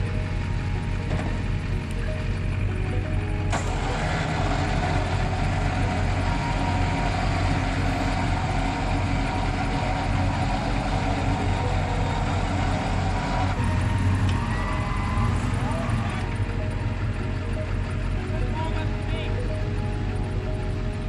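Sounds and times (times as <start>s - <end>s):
vehicle engines idling: 0.0s - 21.0s.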